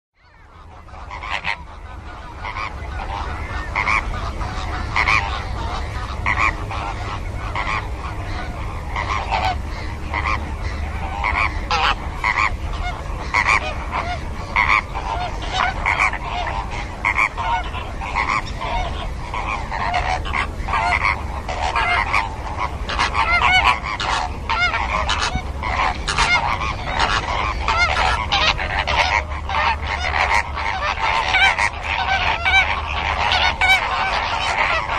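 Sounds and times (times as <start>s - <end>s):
flamingos honking: 0.2s - 34.9s
steady low rumble: 0.2s - 34.9s.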